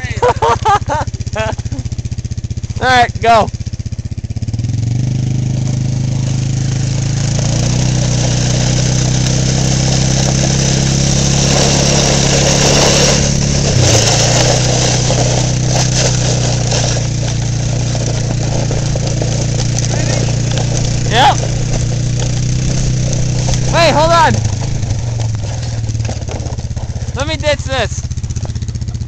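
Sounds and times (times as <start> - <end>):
atv engine running under load: 0.0 - 29.0.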